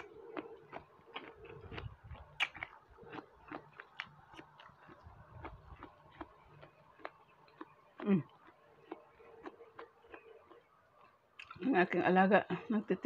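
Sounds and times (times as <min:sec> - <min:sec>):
chewing and mouth sounds: 0:00.0 - 0:11.6.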